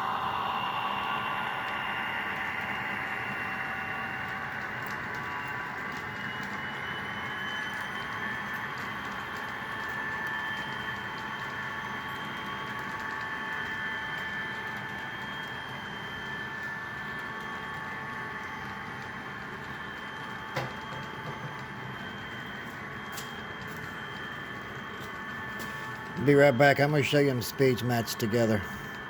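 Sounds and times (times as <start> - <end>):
model locomotive whining hum: 0.0 - 29.0.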